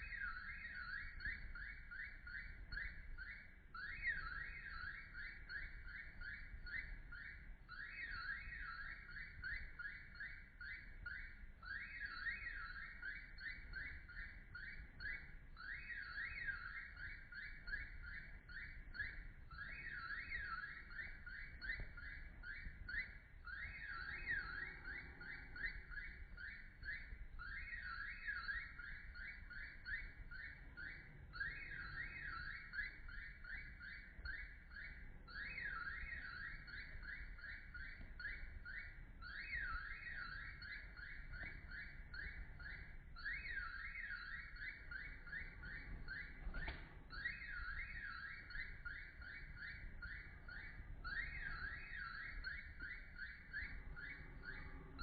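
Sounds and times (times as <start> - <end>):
electronic alarm warble: 0.0 - 55.0.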